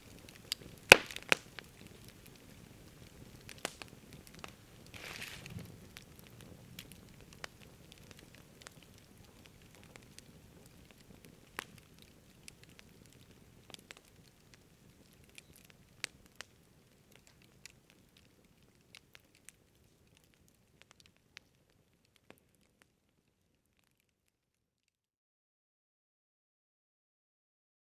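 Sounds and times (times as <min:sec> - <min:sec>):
burning logs popping: 0:00.0 - 0:24.2
campfire crackling: 0:00.0 - 0:24.3.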